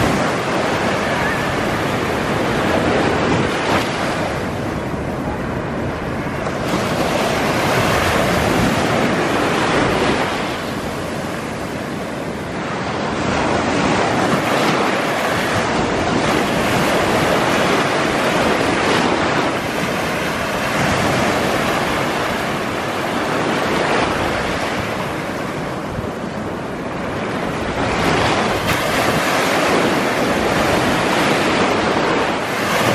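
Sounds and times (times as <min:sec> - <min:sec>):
surf washing along shore: 0:00.0 - 0:32.9.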